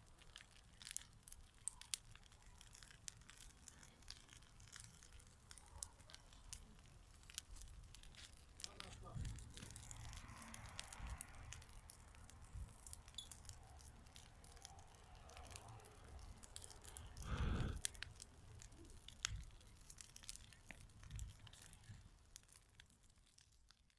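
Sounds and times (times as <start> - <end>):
bonfire crackling and popping: 0.0 - 23.9.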